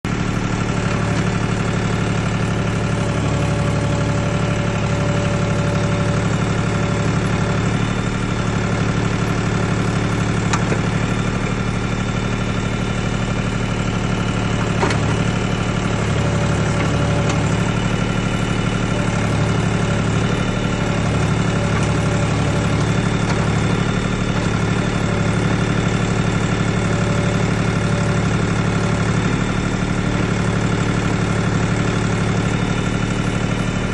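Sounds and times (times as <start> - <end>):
mini backhoe engine running: 0.0 - 33.9.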